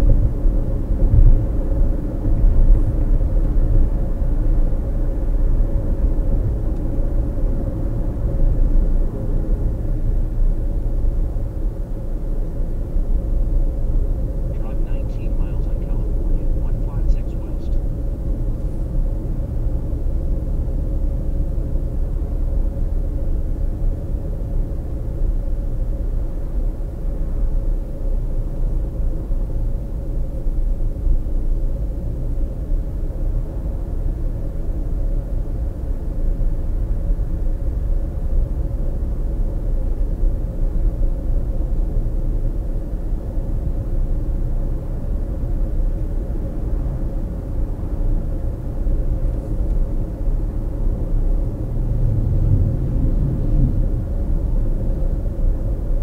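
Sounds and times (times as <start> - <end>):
faint steady hum: 0.0 - 56.0
tyre and engine rumble: 0.0 - 56.0.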